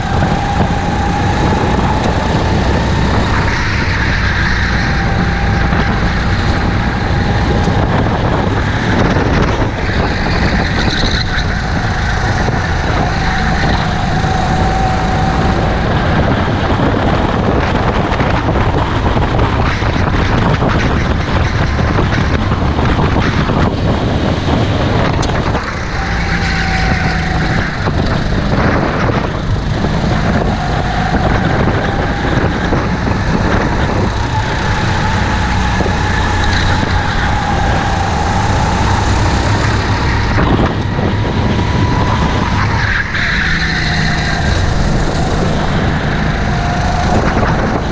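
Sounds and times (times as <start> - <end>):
kart engines racing: 0.0 - 47.9.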